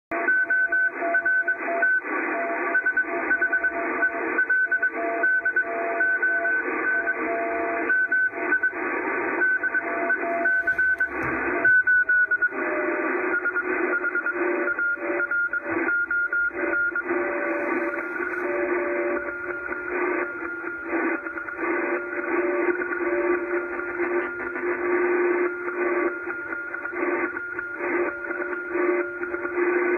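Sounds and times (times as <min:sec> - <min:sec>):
radio hiss and static: 0:00.9 - 0:29.9
morse code beeps: 0:02.7 - 0:29.9.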